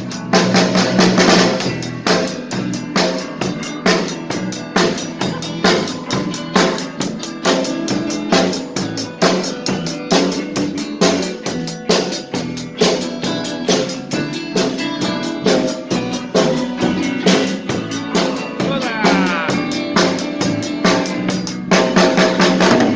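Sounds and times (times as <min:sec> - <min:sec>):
band playing: 0:00.0 - 0:22.9
drum kit steady beat: 0:00.0 - 0:22.9.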